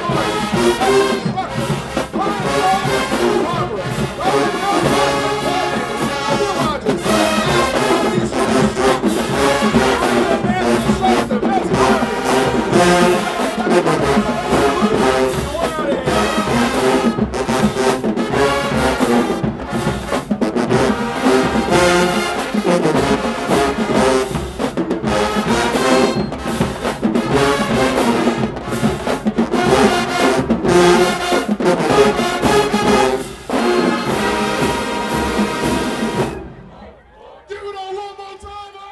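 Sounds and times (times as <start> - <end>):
marching band brass playing: 0.0 - 37.8.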